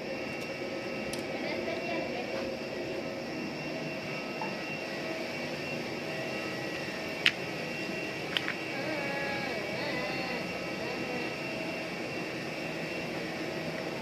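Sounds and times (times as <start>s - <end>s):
jet turbines whining: 0.0s - 14.0s.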